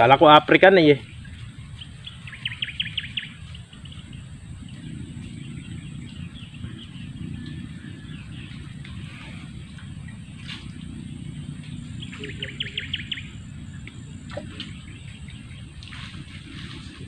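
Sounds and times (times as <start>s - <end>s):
low outdoor rumble: 0.0s - 17.0s
bird chirping: 1.0s - 17.0s.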